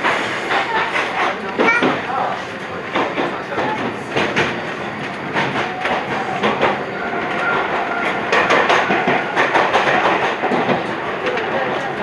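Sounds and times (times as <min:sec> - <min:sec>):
train running noise: 0:00.0 - 0:12.0
wheels clicking over rail joints: 0:00.0 - 0:12.0.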